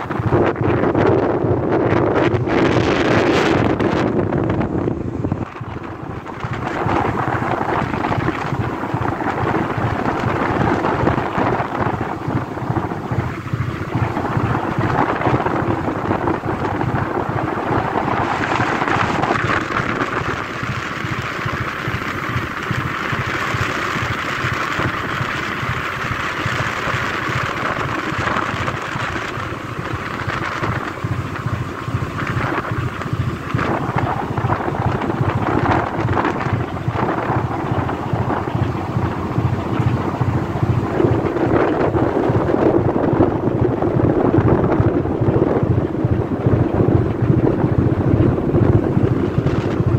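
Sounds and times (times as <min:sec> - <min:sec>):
boat engine rumble: 0:00.0 - 0:49.9
choppy sea rushing: 0:00.0 - 0:49.9
wind buffeting microphone: 0:00.0 - 0:49.9.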